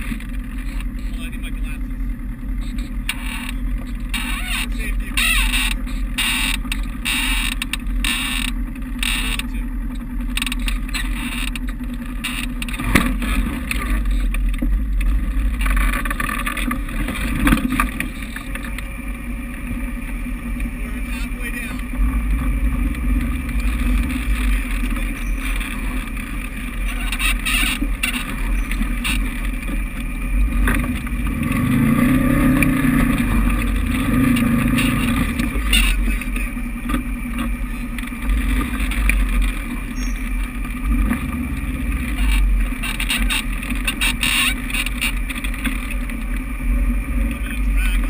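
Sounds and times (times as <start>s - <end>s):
utility vehicle engine revving: 0.0s - 48.0s.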